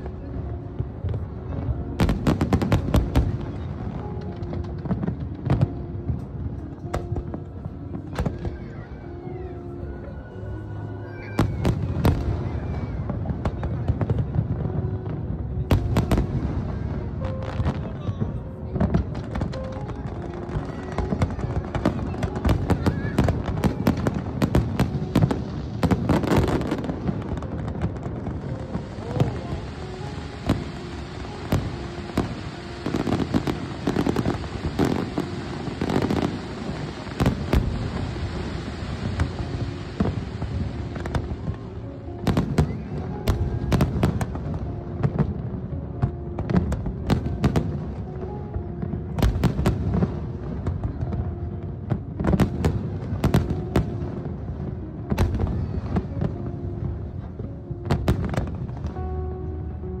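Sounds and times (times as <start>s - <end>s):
fireworks bangs and crackles: 0.0s - 60.0s.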